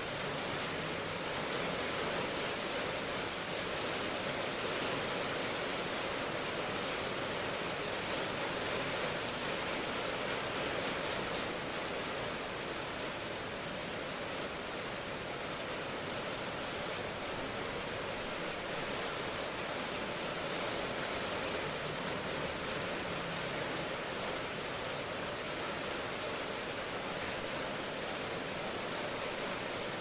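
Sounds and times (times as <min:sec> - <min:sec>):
steady rain hiss: 0:00.0 - 0:30.0.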